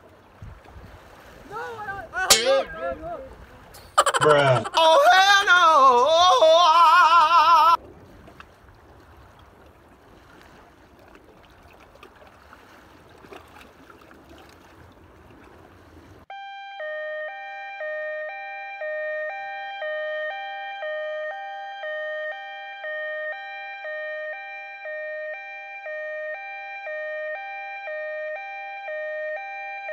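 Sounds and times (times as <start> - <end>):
water: 0.0 - 29.9
wind: 0.0 - 29.9.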